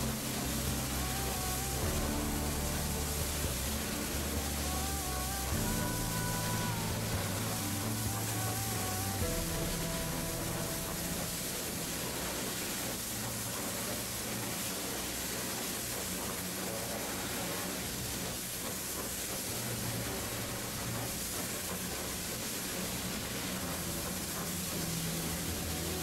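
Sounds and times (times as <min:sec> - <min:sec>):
low steady hum: 0:00.0 - 0:18.8, 0:19.4 - 0:26.0
high-pressure water jets hissing: 0:00.0 - 0:26.0.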